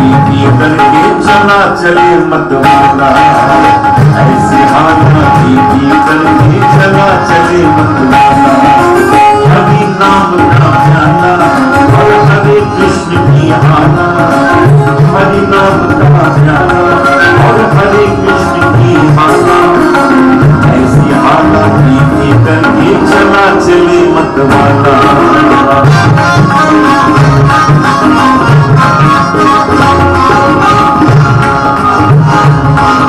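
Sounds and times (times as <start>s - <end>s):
instrumental melody line: 0.0s - 33.0s
tabla drumming: 0.0s - 33.0s.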